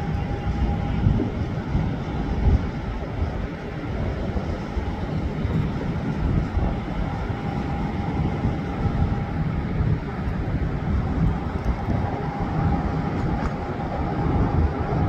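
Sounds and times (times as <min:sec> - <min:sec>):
distant jet engines rumbling: 0:00.0 - 0:15.0
faint steady whine: 0:00.0 - 0:15.0.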